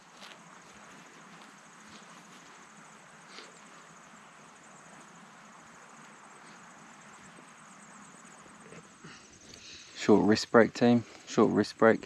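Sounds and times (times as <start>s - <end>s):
insects chirring: 0.0s - 12.0s
low hiss: 0.0s - 12.0s.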